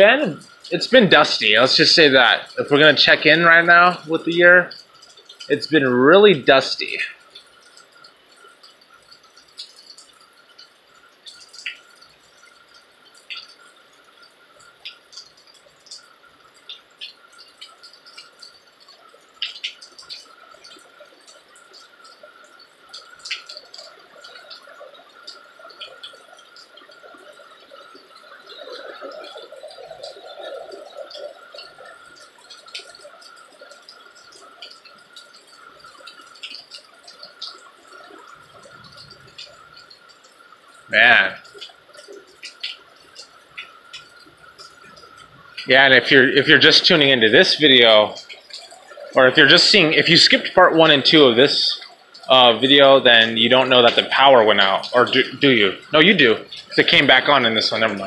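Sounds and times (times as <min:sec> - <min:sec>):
light rain dripping: 0:00.0 - 0:58.0.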